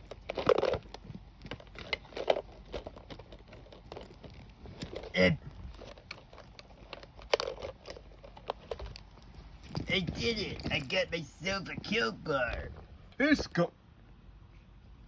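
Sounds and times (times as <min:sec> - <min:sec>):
hands handling plastic toy machine: 0:00.0 - 0:13.6.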